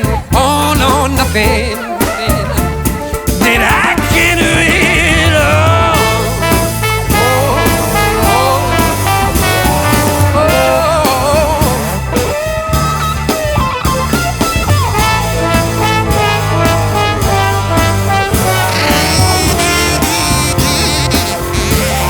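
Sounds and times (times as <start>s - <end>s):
bass guitar groove: 0.0s - 22.0s
drums: 0.0s - 22.0s
lead melody with bending notes: 0.0s - 22.0s.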